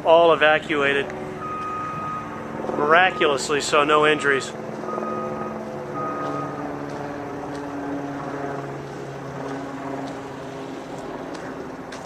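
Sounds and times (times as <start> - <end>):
motor engine droning: 0.0 - 12.0.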